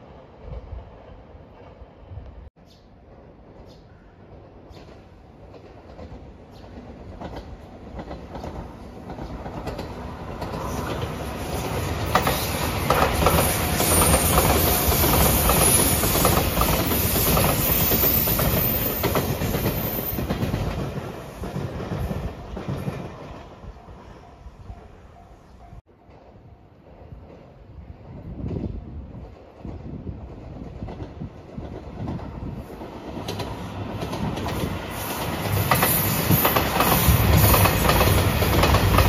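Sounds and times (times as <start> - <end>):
train wheel rumble: 0.0 - 23.9, 24.6 - 39.0
rail-joint clickety-clack: 0.4 - 39.0.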